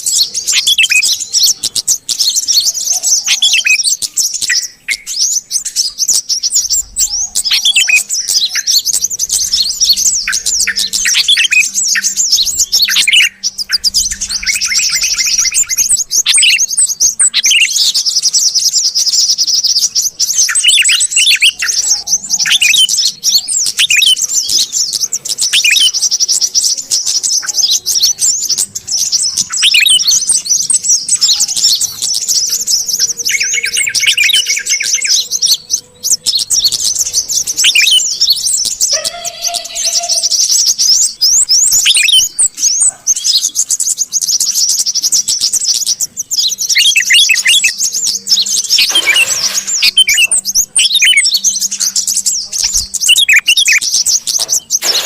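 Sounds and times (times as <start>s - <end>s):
bulbuls chirping and trilling: 0.0s - 55.0s.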